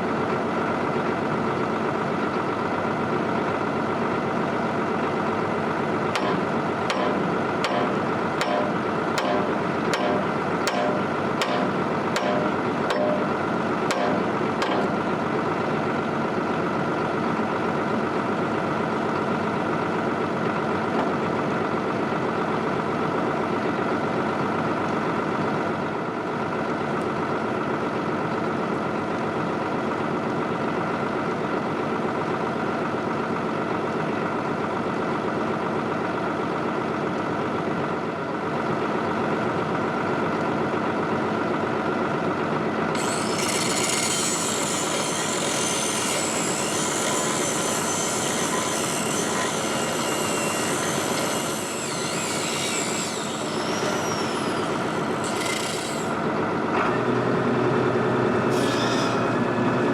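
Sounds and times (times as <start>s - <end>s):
excavator diesel engine running: 0.0s - 52.6s, 53.2s - 58.6s, 59.2s - 59.9s.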